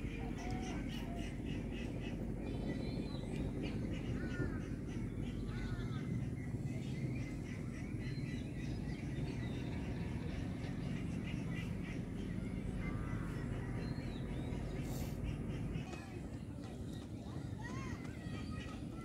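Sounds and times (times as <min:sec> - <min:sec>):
bird calls and chirps: 0:00.0 - 0:19.0.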